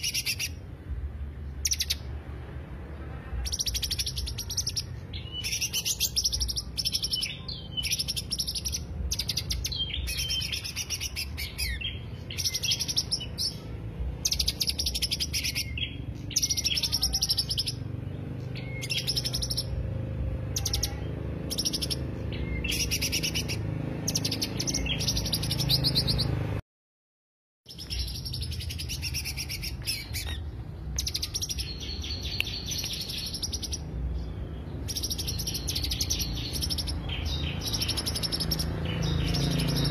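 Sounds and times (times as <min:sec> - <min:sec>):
bird chattering song: 0:00.0 - 0:00.8, 0:01.4 - 0:02.1, 0:03.3 - 0:26.5, 0:27.7 - 0:39.9.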